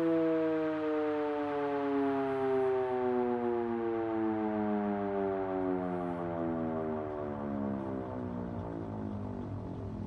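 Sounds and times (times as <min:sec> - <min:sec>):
warning siren winding down: 0:00.0 - 0:10.0.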